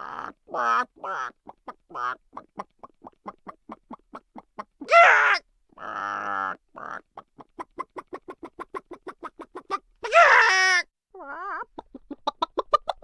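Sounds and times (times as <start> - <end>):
chickens clucking: 0.0 - 4.8, 5.8 - 10.0, 11.6 - 13.0
chickens squawking: 0.0 - 13.0.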